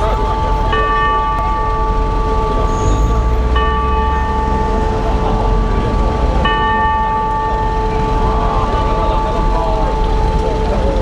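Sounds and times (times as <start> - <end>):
bell ringing: 0.0 - 11.0
street traffic noise: 0.0 - 11.0.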